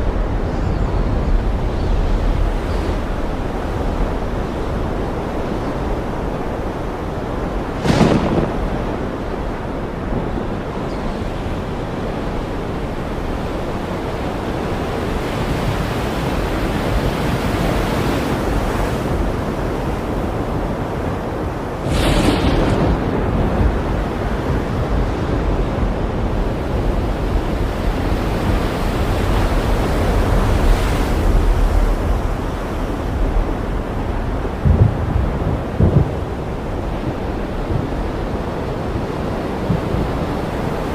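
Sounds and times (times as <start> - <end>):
heavy wind and rain: 0.0 - 40.9
wind buffeting microphone: 0.0 - 40.9.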